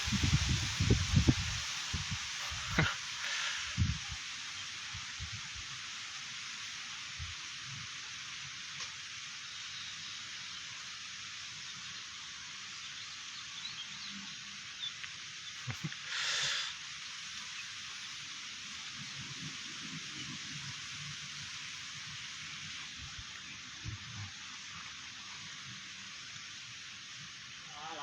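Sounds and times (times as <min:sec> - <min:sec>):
wind through palm fronds: 0:00.0 - 0:12.1, 0:14.8 - 0:28.0.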